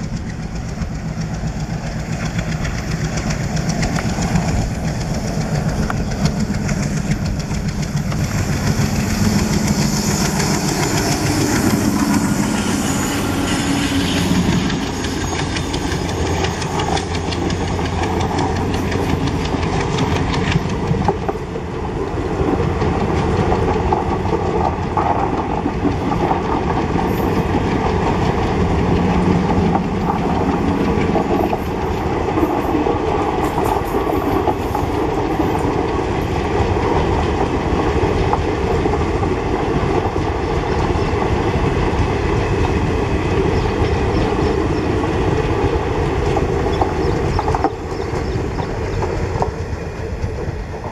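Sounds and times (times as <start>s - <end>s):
diesel locomotive engine: 0.0s - 50.9s
rail noise: 0.0s - 50.9s.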